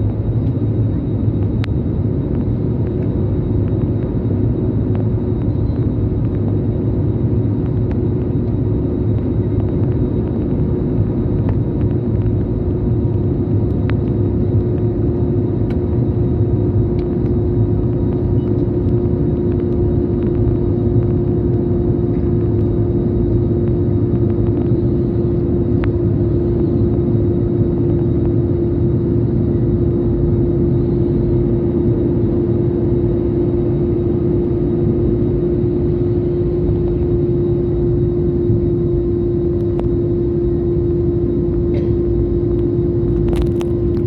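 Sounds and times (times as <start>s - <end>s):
constant hum: 0.0s - 44.0s
jet engines roaring in cabin: 0.0s - 44.0s.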